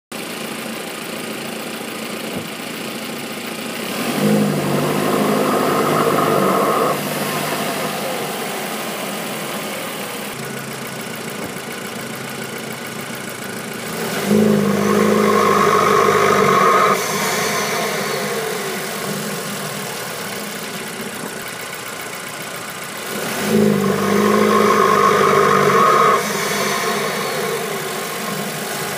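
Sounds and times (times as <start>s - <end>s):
car engine idling: 0.1s - 28.9s
engine howl under load: 0.4s - 28.9s.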